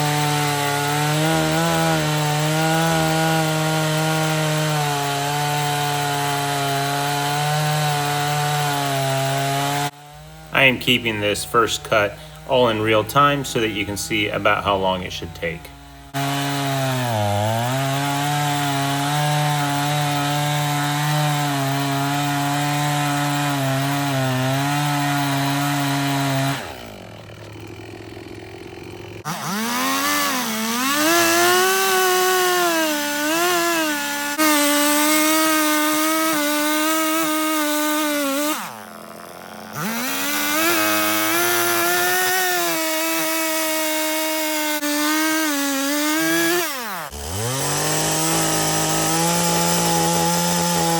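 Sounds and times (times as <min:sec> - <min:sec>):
chainsaw cutting log: 0:00.0 - 0:50.9.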